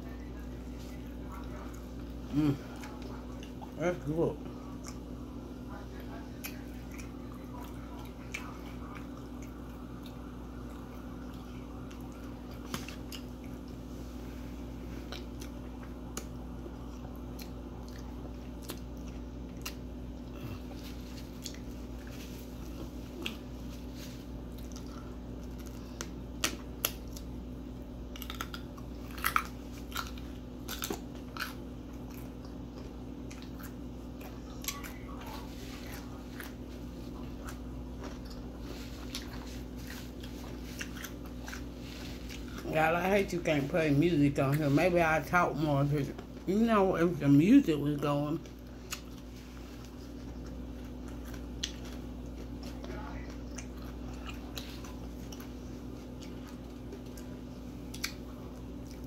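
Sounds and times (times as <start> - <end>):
person chewing food: 0.0 - 43.6, 48.4 - 59.0
steady low hum: 0.0 - 59.0.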